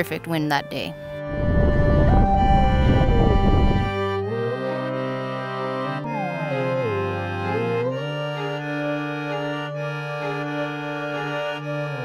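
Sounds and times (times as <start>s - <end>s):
background music of held chords: 0.0s - 12.0s
sliding melody note: 0.0s - 12.0s.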